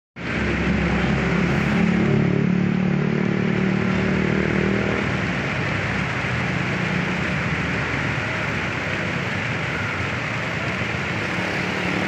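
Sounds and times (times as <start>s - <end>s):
waterfall splashing into pool: 0.2s - 12.0s.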